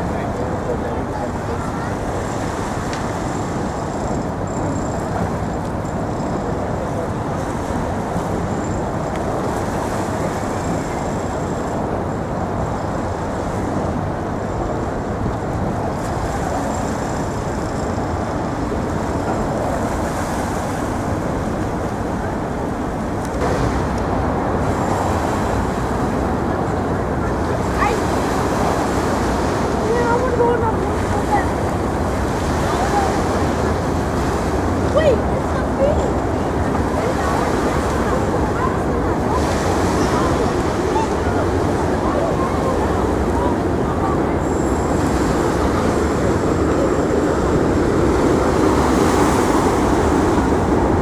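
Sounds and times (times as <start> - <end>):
city road traffic roar: 0.0 - 51.0.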